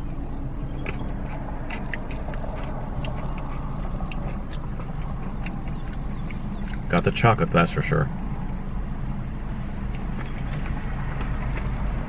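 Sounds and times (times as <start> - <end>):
person chewing crunchy food: 0.0 - 7.2, 8.2 - 12.0
steady low rumble: 0.0 - 12.0.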